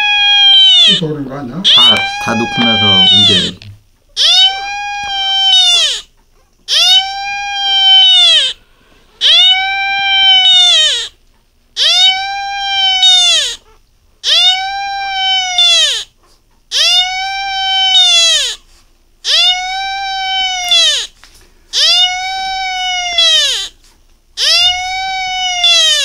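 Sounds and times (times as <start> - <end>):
dog howling: 0.0 - 3.6, 4.2 - 6.1, 6.7 - 8.6, 9.2 - 11.1, 11.8 - 16.1, 16.8 - 18.6, 19.3 - 21.1, 21.8 - 23.8, 24.4 - 26.0.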